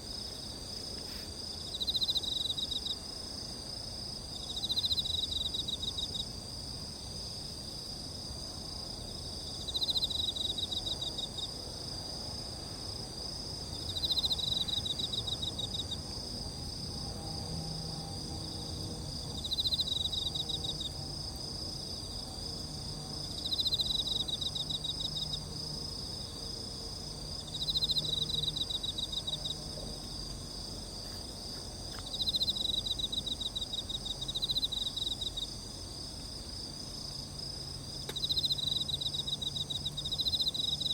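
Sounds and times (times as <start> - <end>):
crickets and insects chorus: 0.0 - 40.9.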